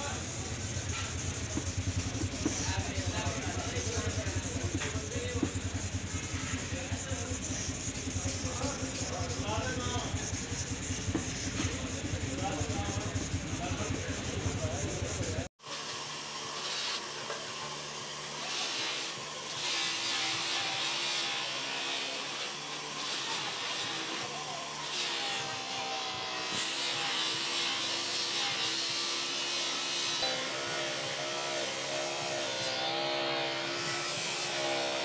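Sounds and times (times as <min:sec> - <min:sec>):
polishing motor running: 0:00.0 - 0:35.0
rasping friction hiss: 0:00.0 - 0:35.0.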